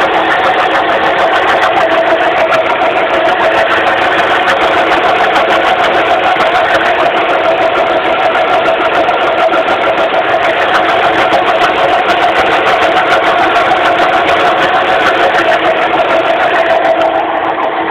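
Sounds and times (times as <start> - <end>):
car engine running with steady hum: 0.0 - 17.9.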